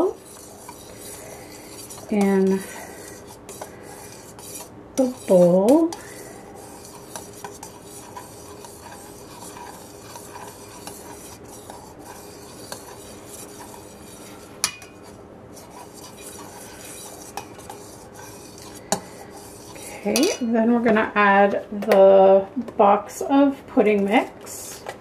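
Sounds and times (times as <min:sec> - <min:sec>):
metal spoon stirring in steel bowl: 0:00.0 - 0:20.5.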